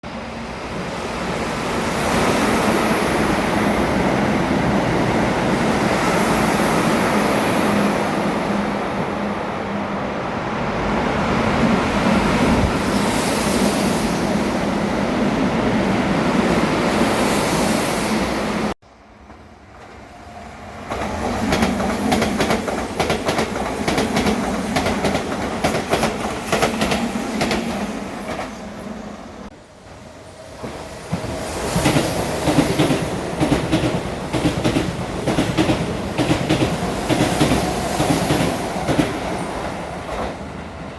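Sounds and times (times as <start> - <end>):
train rushing past: 0.1 - 40.9.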